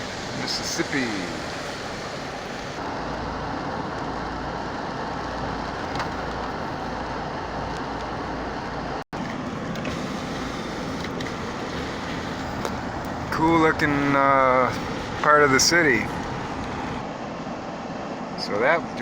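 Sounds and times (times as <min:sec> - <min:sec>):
car tyres on wet road: 0:00.0 - 0:19.0.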